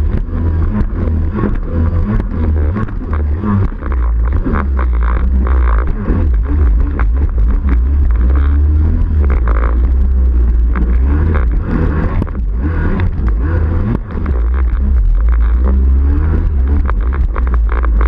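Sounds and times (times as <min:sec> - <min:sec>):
personal watercraft engine rumbling: 0:00.0 - 0:18.0.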